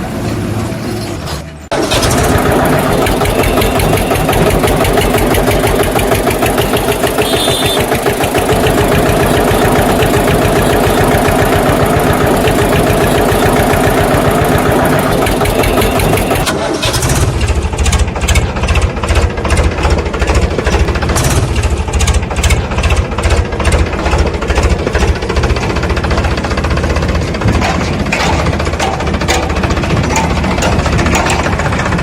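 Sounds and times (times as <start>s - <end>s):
engine running with even pulse: 1.7s - 32.0s.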